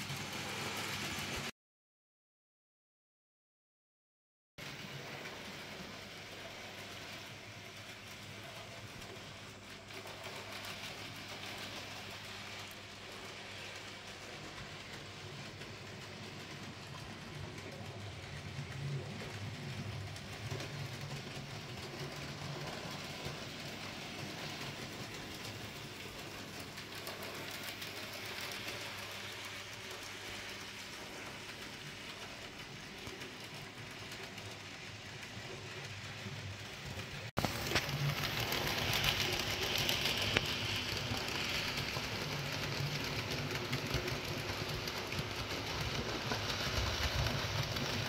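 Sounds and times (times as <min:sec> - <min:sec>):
small wheels clicking over rails: 0:00.0 - 0:01.5, 0:04.6 - 0:48.0.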